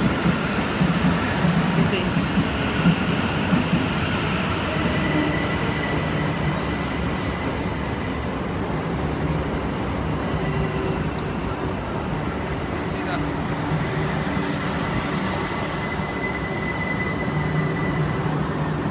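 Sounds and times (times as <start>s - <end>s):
train wheels rumbling: 0.0s - 18.9s.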